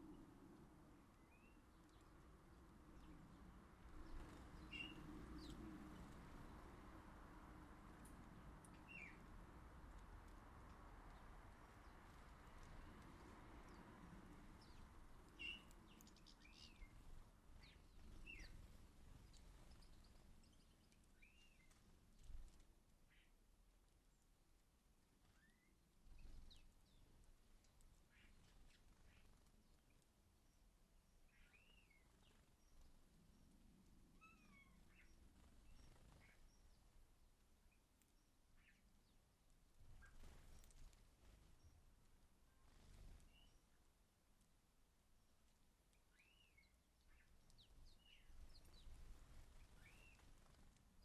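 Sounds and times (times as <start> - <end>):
small birds chirping: 0.0 - 44.5, 45.6 - 51.0
low background noise: 0.0 - 51.0.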